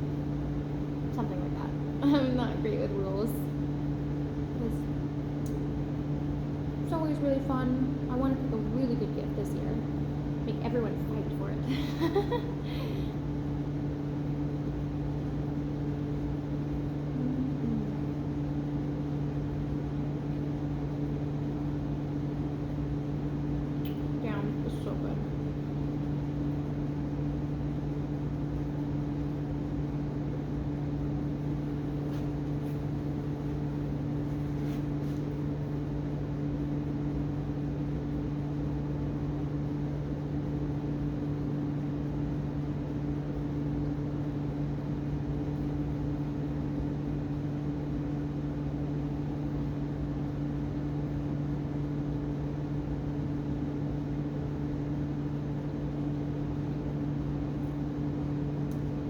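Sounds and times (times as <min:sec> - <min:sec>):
steady machine hum: 0:00.0 - 0:59.0.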